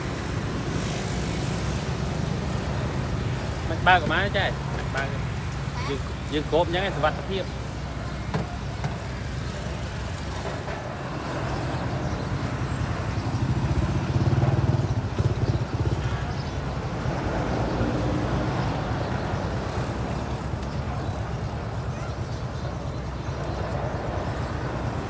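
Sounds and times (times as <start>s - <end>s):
low traffic rumble: 0.0s - 25.0s
vehicles passing: 0.0s - 25.0s.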